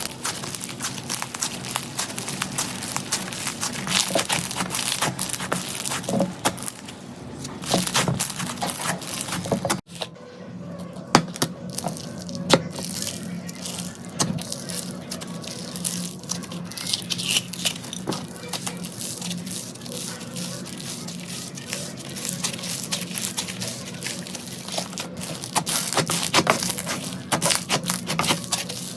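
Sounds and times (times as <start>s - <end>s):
slime crackling and popping: 0.0s - 10.1s, 11.2s - 28.9s.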